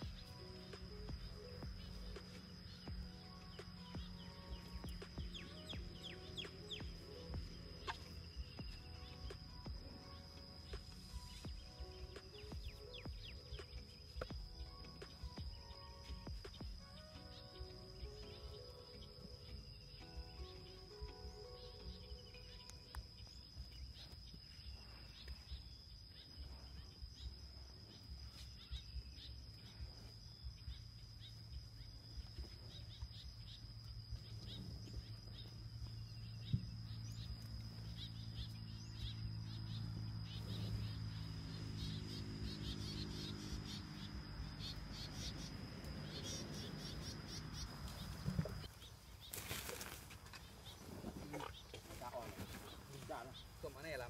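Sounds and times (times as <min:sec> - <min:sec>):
low hum: 0:00.0 - 0:51.7
high-pitched insect drone: 0:00.0 - 0:54.0.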